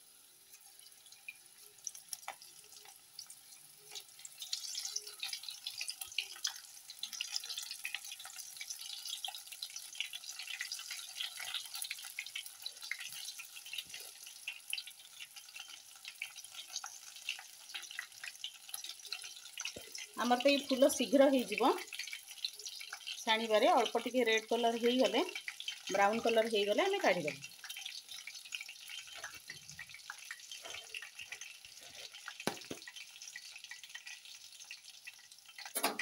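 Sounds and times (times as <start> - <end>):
food deep-frying in hot oil: 0.0 - 36.0.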